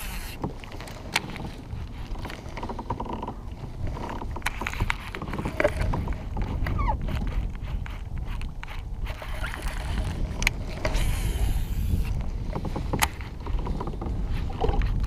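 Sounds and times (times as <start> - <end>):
fishing gear clicks and knocks: 0.0 - 15.0.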